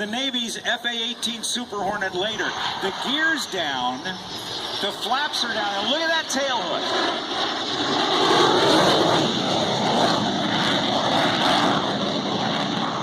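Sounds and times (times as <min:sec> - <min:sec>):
jet engine roar passing overhead: 0:00.0 - 0:13.0.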